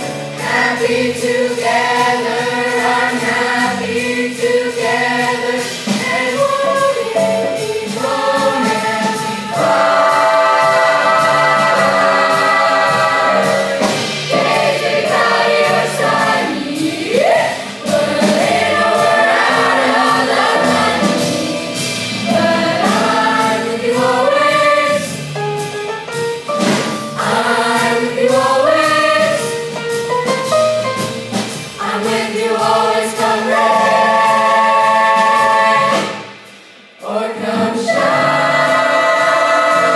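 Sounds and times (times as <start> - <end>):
choir singing in harmony: 0.0 - 25.4, 27.0 - 29.8, 31.0 - 39.9.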